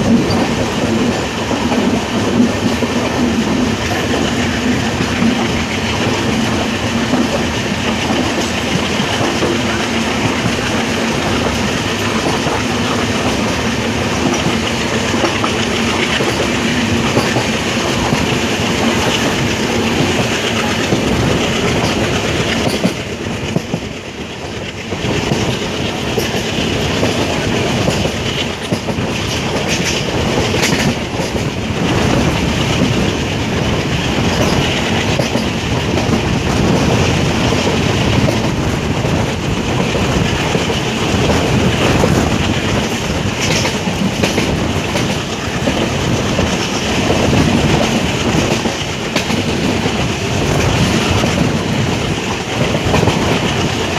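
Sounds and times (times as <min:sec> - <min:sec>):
train wheels clattering over rail joints: 0:00.0 - 0:53.9.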